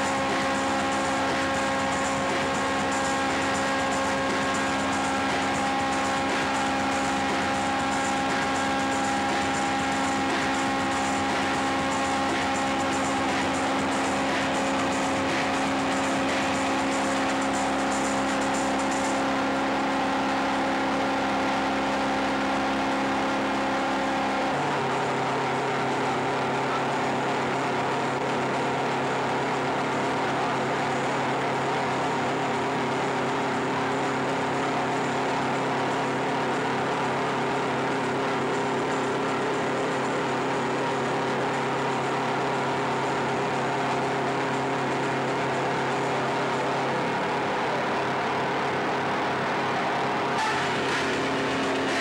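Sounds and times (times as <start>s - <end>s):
electronic drone music: 0.0s - 52.0s.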